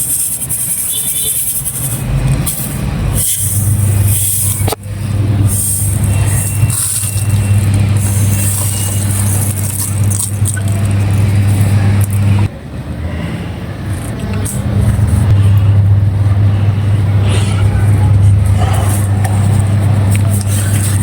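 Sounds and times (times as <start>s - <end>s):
steady low hum: 1.6s - 21.0s.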